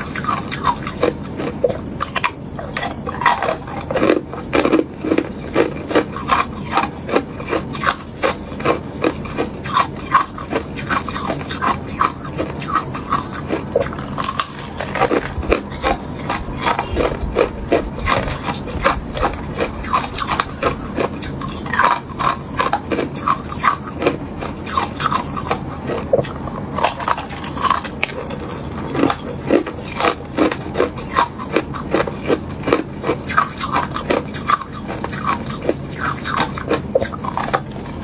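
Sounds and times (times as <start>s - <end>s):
ice being bitten and crunched: 0.0s - 38.0s.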